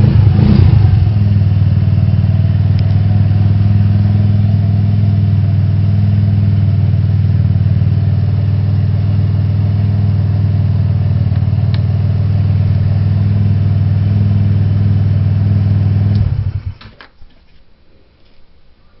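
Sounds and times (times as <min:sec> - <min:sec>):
scooter engine idling: 0:00.0 - 0:16.8.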